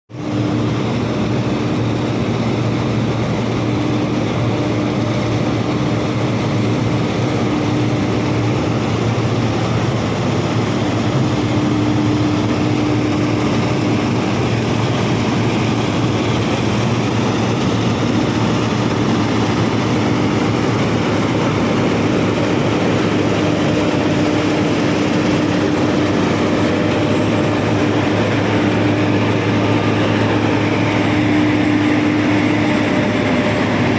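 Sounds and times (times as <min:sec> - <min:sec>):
combine harvester running: 0:00.2 - 0:33.9.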